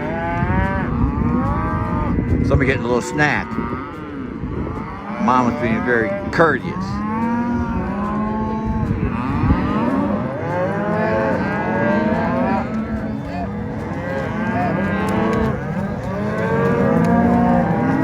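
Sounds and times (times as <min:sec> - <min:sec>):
cattle mooing: 0:00.0 - 0:18.0.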